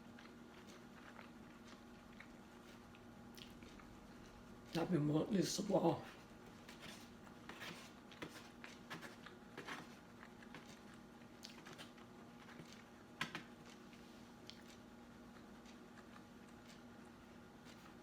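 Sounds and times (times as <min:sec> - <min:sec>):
person chewing: 0:00.0 - 0:04.8, 0:06.6 - 0:18.0
faint steady hum: 0:00.0 - 0:18.0.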